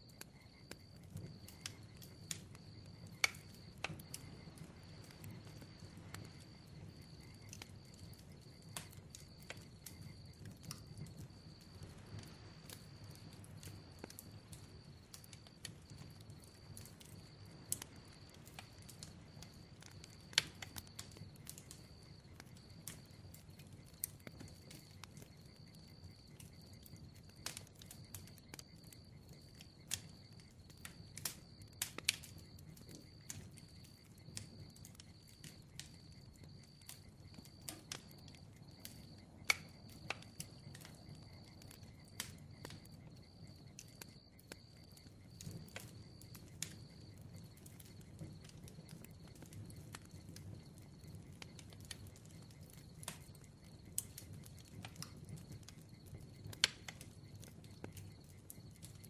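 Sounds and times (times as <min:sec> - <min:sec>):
bonfire crackling: 0:00.0 - 0:59.0
crickets trilling: 0:00.0 - 0:59.0.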